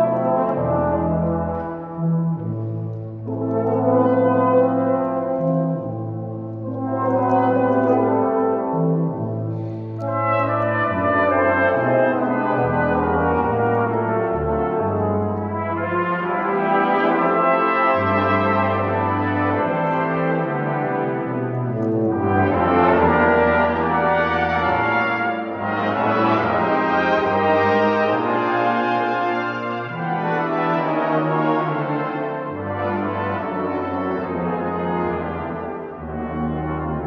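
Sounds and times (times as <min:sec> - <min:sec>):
brass ensemble playing chords: 0:00.0 - 0:37.0
low tuba notes: 0:00.0 - 0:37.0.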